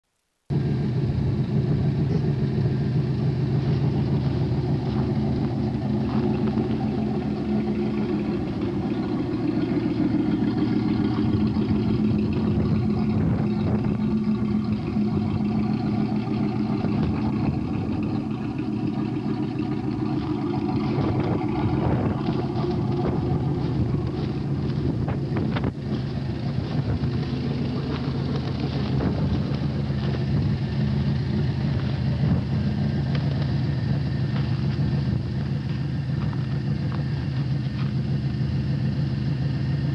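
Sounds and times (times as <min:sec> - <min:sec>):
car engine idling: 0:00.3 - 0:39.9.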